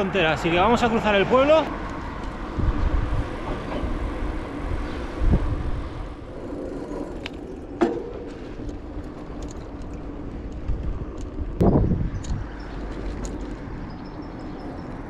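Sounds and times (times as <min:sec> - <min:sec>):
bike tyres rumbling: 0:00.0 - 0:15.0
wind on microphone: 0:01.9 - 0:14.2.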